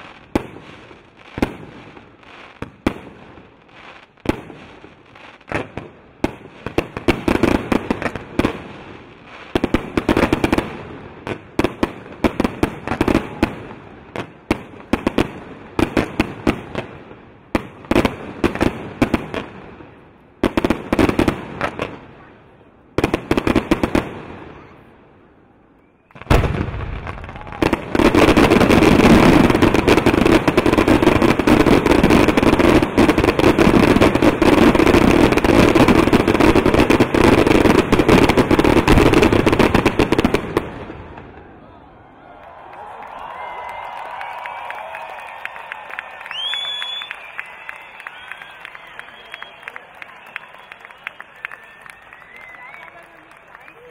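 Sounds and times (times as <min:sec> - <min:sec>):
fireworks bursting and crackling: 0:00.0 - 0:41.6, 0:42.7 - 0:53.9.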